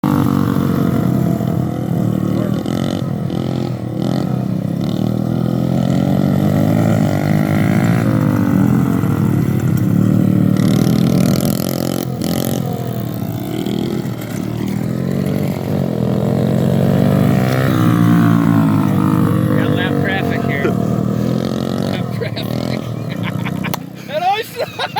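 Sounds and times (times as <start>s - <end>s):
dirt bike engines revving: 0.0s - 24.9s.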